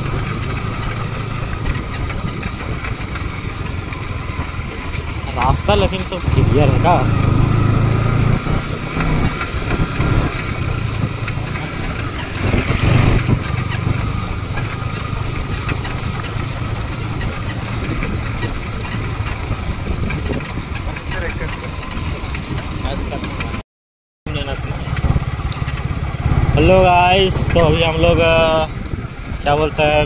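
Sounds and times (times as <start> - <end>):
wind noise on microphone: 0.0 - 5.3, 6.3 - 23.6, 24.7 - 30.0
motorcycle engine running: 0.0 - 23.6, 24.3 - 30.0.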